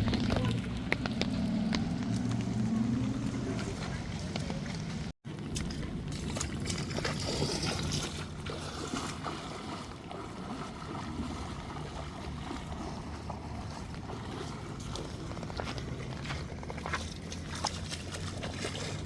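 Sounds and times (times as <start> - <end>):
floodwater flowing: 0.0 - 19.0.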